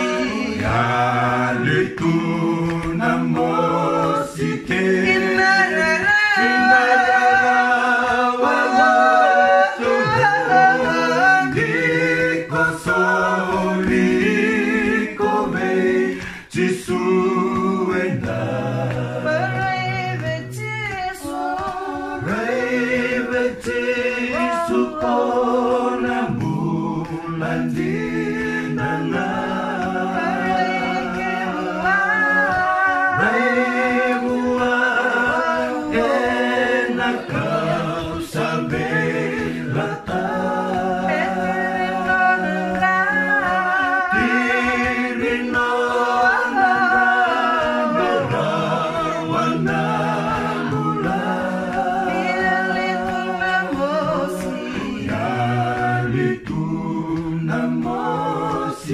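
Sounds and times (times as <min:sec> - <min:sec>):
unaccompanied choir singing: 0:00.0 - 0:58.9.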